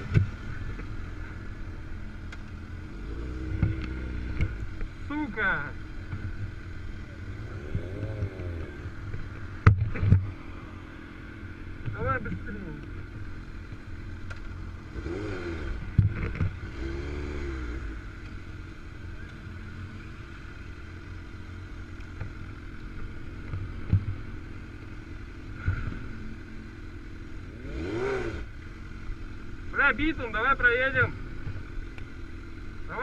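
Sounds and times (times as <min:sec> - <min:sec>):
vehicle engines rumbling: 0:00.0 - 0:33.0.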